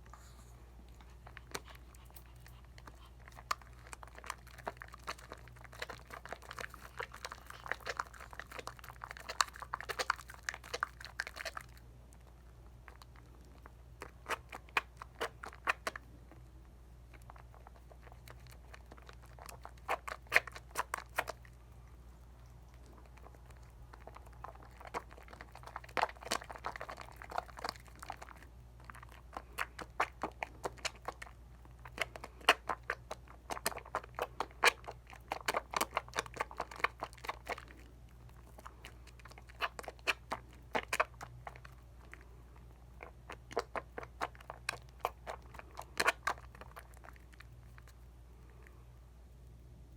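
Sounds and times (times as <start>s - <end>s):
soap lather squishing between hands: 0.9s - 48.7s.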